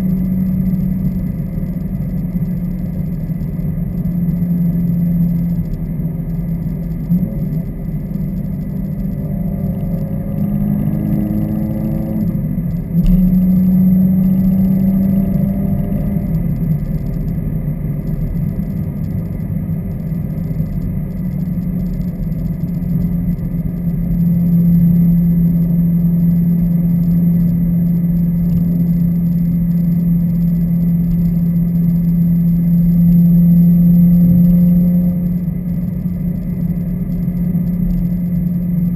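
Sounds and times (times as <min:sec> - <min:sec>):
car engine droning while driving: 0:00.0 - 0:38.9.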